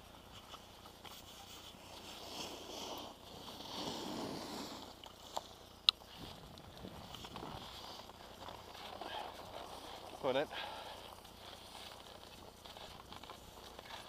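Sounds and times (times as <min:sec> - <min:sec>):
skis shuffling on packed snow: 0:00.0 - 0:14.0.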